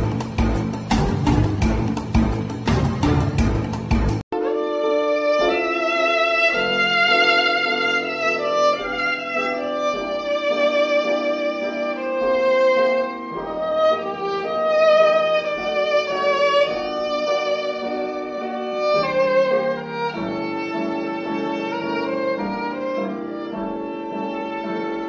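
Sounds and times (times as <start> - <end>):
bowed violin melody: 4.3 - 25.0.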